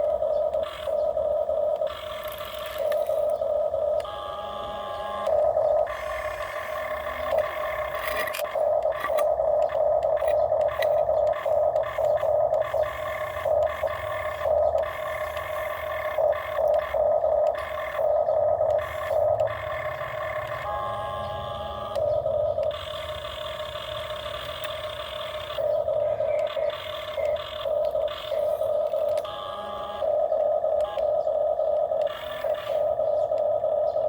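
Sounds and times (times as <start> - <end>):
whining toy electric motors: 0.0 - 34.0.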